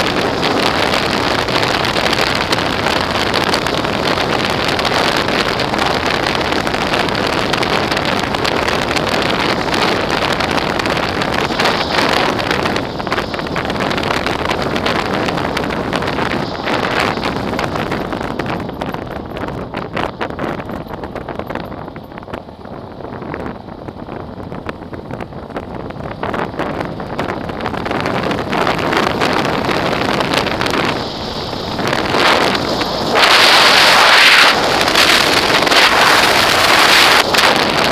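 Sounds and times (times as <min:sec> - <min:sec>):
motorcycle engine and tyres rumbling: 0:00.0 - 0:37.9
wind buffeting microphone: 0:00.0 - 0:37.9.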